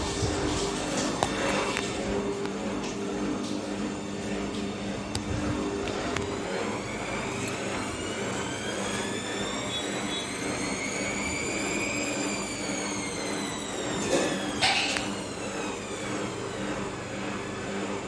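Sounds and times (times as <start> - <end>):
washing machine motor whine: 0.0 - 18.0.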